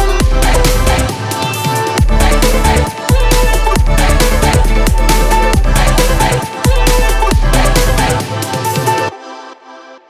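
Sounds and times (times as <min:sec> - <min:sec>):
electronic music with heavy beat: 0:00.0 - 0:10.0.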